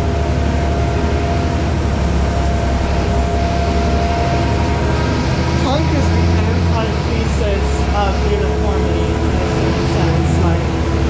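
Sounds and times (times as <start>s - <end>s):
faint steady whine: 0.0s - 11.0s
train car rumble: 0.0s - 11.0s.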